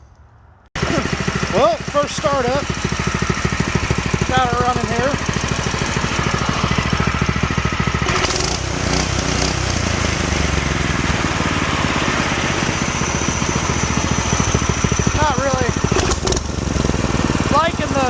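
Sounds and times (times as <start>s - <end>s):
small engine running: 0.8s - 18.0s.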